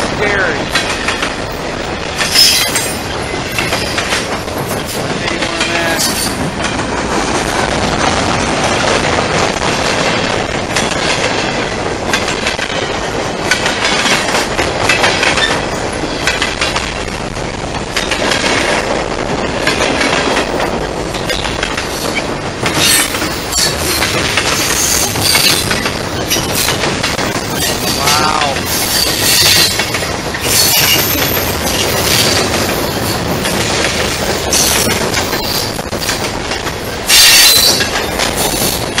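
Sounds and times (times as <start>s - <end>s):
train rumbling past: 0.0s - 39.0s
wheels clacking over rail joints: 0.0s - 39.0s.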